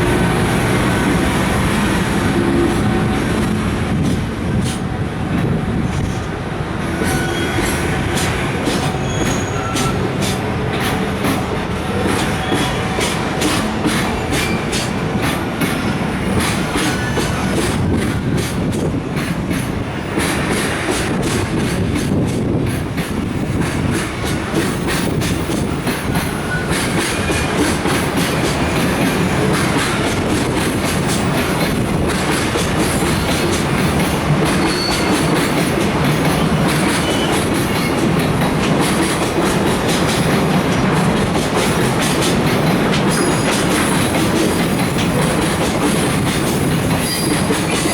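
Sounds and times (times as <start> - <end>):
freight train rumbling past: 0.0 - 47.9
wheels clacking over rail joints: 6.9 - 47.9.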